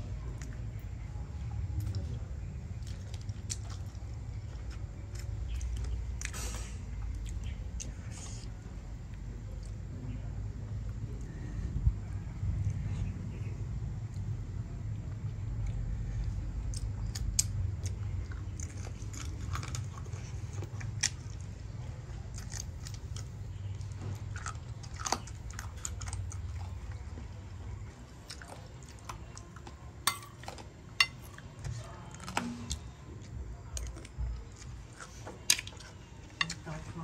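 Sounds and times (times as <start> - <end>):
low background rumble: 0.0 - 37.0
person chewing close up: 1.7 - 9.9, 14.0 - 36.8.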